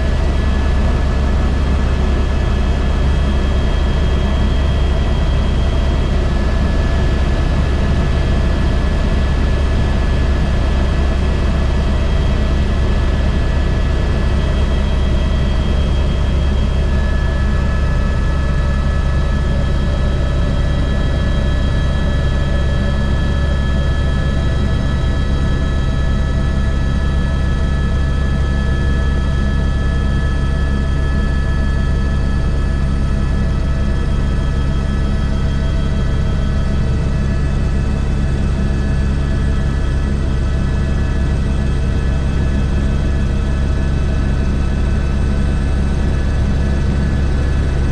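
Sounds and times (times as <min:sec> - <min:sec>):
helicopter rotor drone: 0:00.0 - 0:47.9
high turbine whine: 0:00.0 - 0:47.9.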